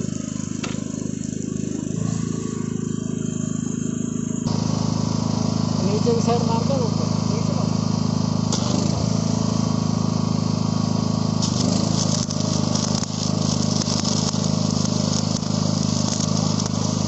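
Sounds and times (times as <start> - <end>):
welding arc crackling: 0.0 - 17.0
welding machine hum: 0.0 - 17.0.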